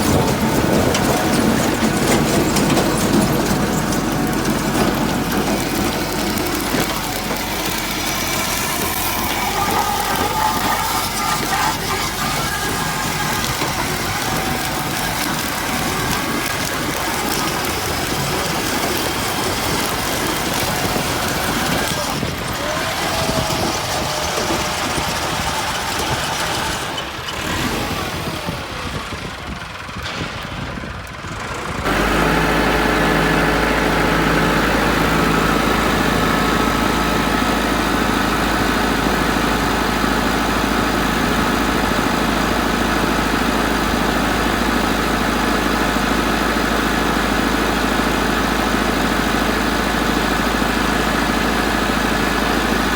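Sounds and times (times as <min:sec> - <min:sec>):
engine drone with deep hum: 0:00.0 - 0:52.9
engine running unevenly: 0:00.0 - 0:52.9.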